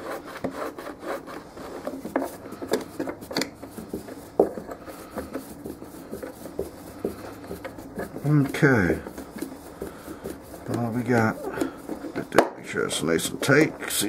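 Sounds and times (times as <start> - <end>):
plastic cover rubbing and scraping: 0.0 - 14.0.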